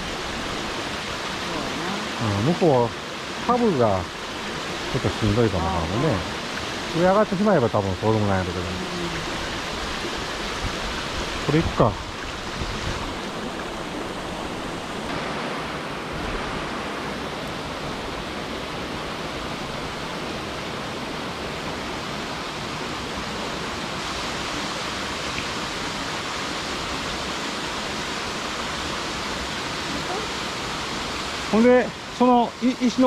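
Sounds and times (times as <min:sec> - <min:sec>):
stream cascading over boulders: 0:00.0 - 0:33.0.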